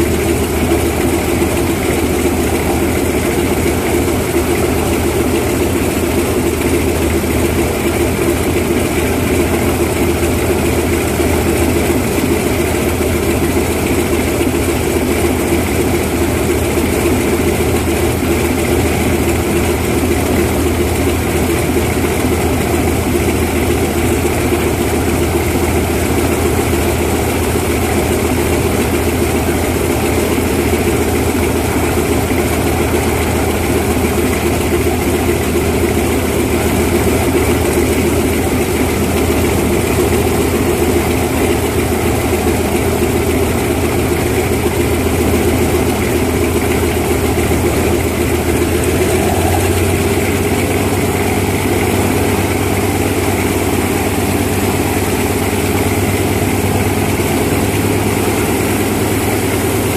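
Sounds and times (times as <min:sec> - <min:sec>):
propeller plane engine idling: 0:00.0 - 0:59.9.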